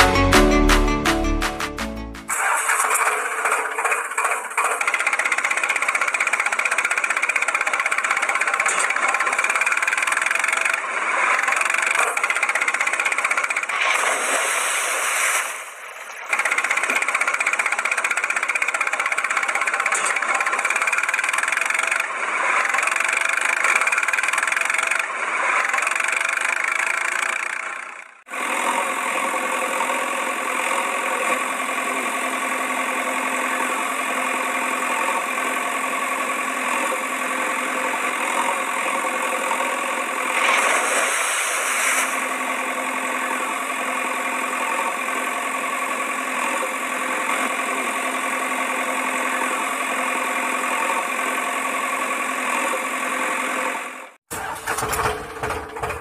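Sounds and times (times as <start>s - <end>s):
engine idling: 2.3s - 14.3s, 15.7s - 56.0s.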